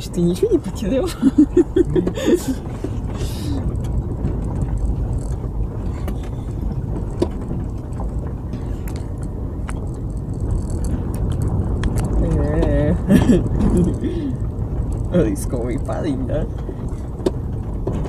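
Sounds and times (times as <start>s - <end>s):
engine and tyre rumble: 0.0s - 18.0s
knocks and rattles: 0.0s - 18.0s.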